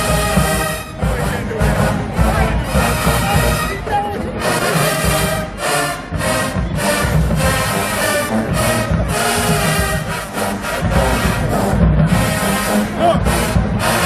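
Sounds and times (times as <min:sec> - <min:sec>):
brass holding chords: 0:00.0 - 0:14.0
drums and cymbals: 0:00.0 - 0:14.0.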